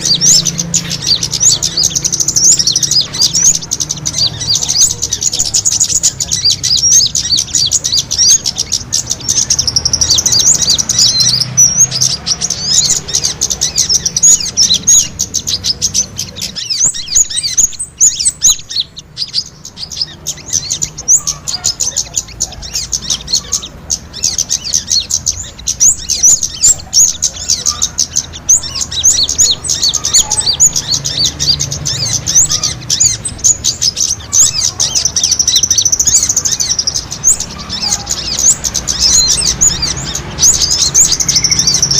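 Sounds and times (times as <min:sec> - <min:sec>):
small birds twittering: 0:00.0 - 0:41.9.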